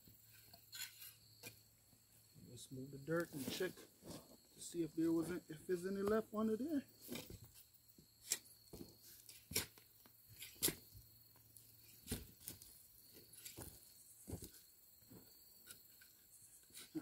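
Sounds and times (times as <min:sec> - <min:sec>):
soil crunching and scraping: 0:00.1 - 0:01.7, 0:02.5 - 0:17.0.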